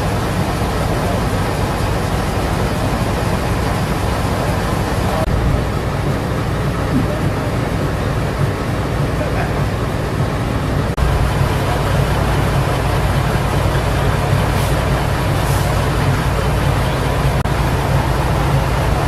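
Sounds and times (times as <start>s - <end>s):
large engine idling: 0.0s - 19.0s.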